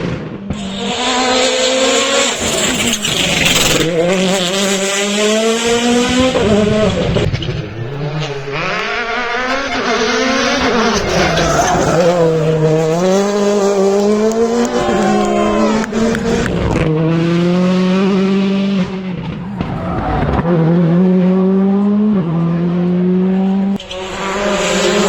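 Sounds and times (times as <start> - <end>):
rally car engine revving hard: 0.0 - 25.0.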